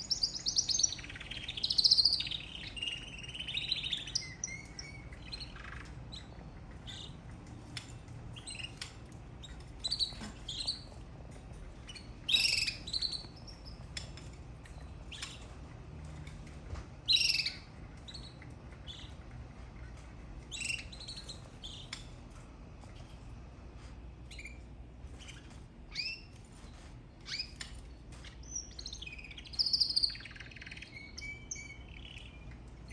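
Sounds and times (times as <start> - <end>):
canary chirping and singing: 0.0 - 32.9.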